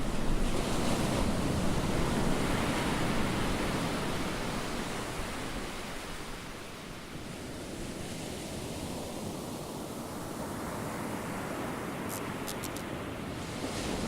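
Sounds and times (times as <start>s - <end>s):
rushing sea water: 0.0s - 14.0s.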